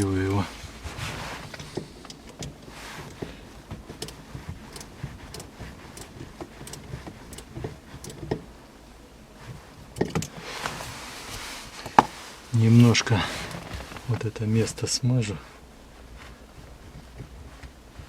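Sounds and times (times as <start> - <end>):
rustling swishes: 0.0 - 18.0.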